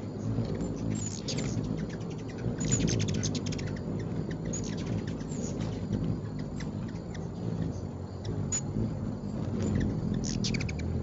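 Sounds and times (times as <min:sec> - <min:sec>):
high chittering bird calls: 0:00.0 - 0:11.0
hummingbird wings humming: 0:00.0 - 0:11.0.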